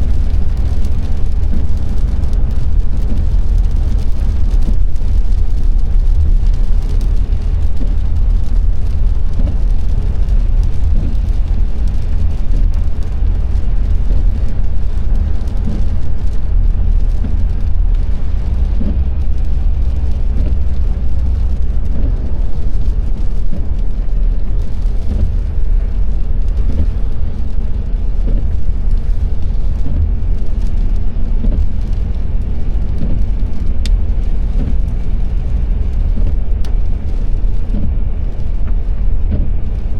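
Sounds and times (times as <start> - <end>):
car tyres on wet road: 0.0 - 39.9.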